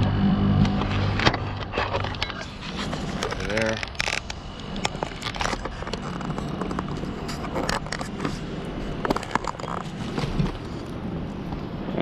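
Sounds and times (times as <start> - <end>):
heat pump humming: 0.0 - 12.0
clicks and scrapes: 0.7 - 10.9.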